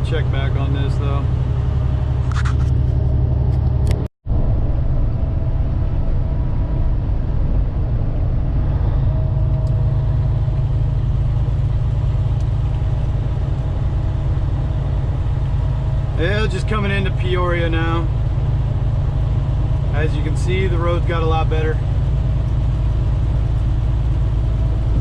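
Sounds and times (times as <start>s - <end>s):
truck engine drone: 0.0s - 25.0s.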